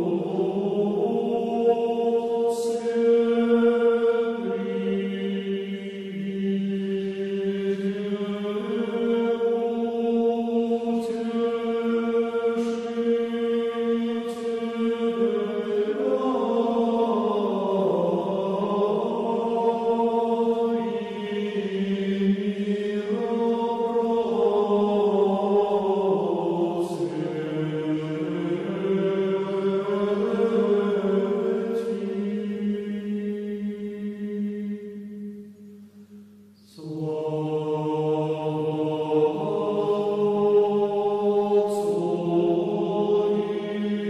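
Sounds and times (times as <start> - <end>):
slow choral chant: 0.0 - 44.0.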